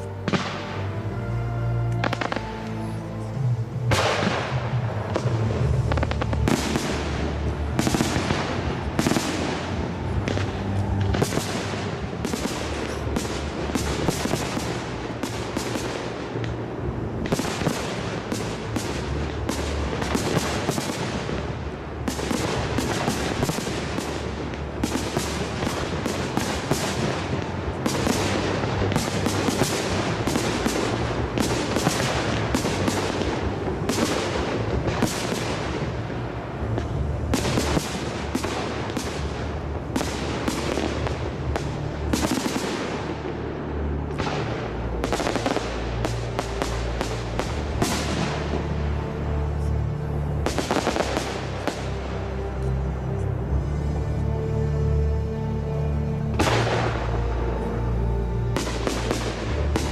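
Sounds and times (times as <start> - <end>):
fireworks bangs and crackles: 0.0 - 1.0, 2.0 - 2.7, 3.8 - 53.4, 56.3 - 57.8, 58.5 - 59.9.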